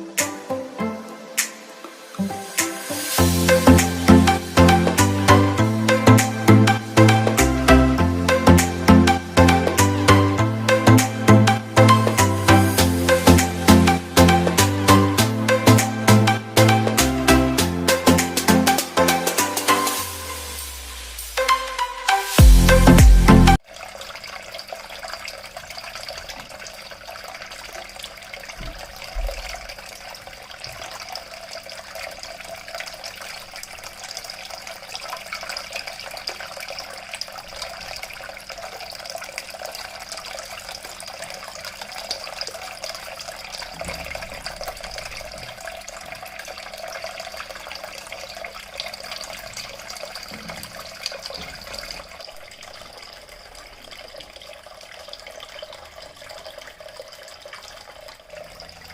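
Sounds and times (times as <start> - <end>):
fountain water splashing and trickling: 0.0 - 22.5, 23.5 - 58.9.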